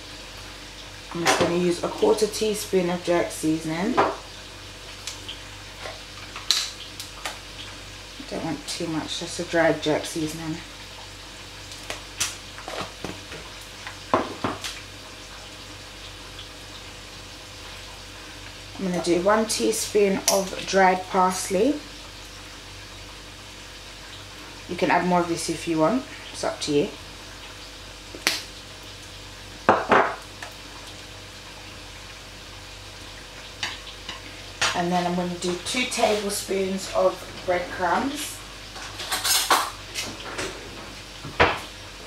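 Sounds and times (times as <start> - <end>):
low hum and hiss: 0.0 - 42.0.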